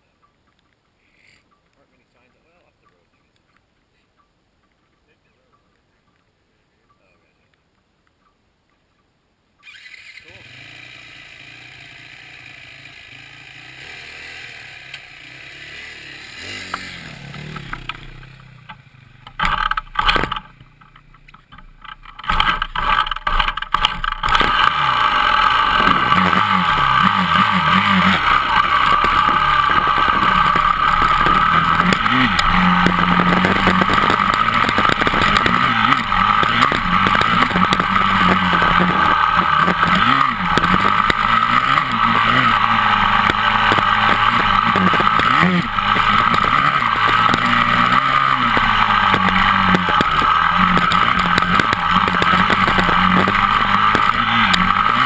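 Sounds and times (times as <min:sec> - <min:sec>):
dirt bike engine: 0:09.6 - 0:55.0.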